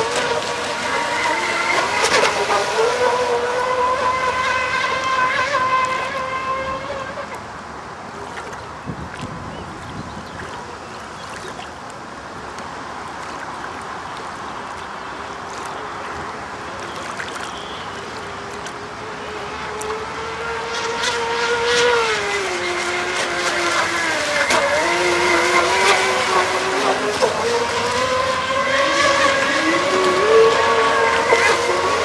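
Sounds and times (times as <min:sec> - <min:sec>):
boat engine high-pitched whine: 0:00.0 - 0:32.0.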